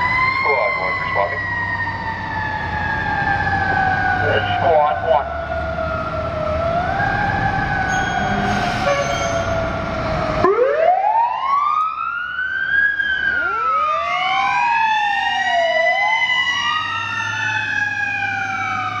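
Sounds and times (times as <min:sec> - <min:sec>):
fire truck sirens wailing: 0:00.0 - 0:19.0.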